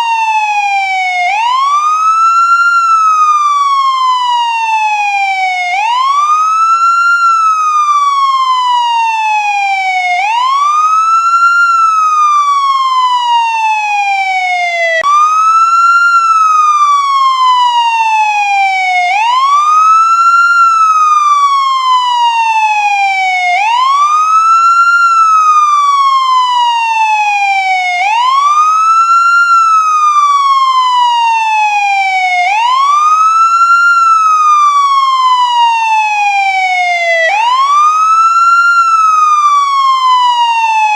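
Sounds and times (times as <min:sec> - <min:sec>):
ambulance siren wailing: 0:00.0 - 0:40.9.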